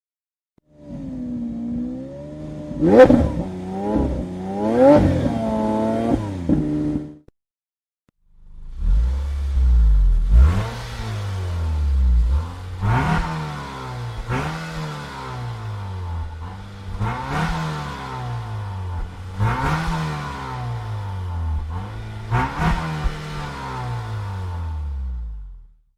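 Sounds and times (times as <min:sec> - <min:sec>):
car engine revving: 0:00.7 - 0:07.2, 0:08.3 - 0:25.8.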